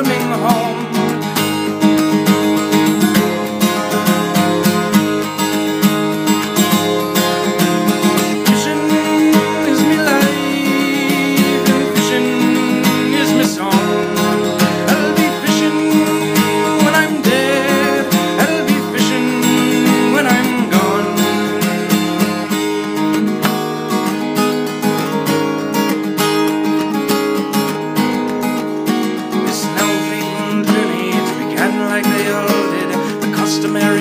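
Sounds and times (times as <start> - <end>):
acoustic guitar strumming: 0.0 - 34.0
wavering lead melody: 0.7 - 28.8.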